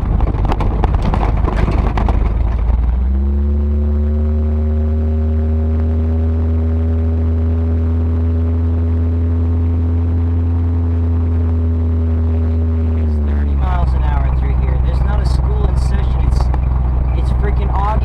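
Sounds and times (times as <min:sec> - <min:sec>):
car engine cruising: 0:00.0 - 0:18.0.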